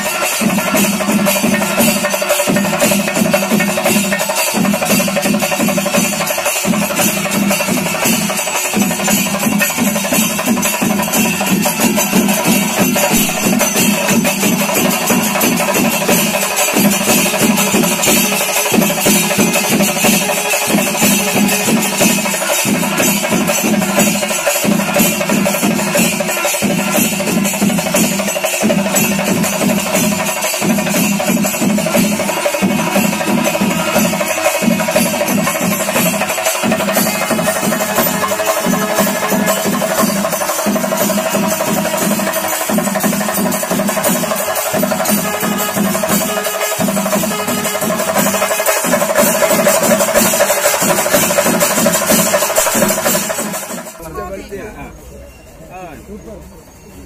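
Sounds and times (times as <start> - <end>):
drums playing: 0.0 - 54.6
hand cymbals clashing: 0.0 - 57.0.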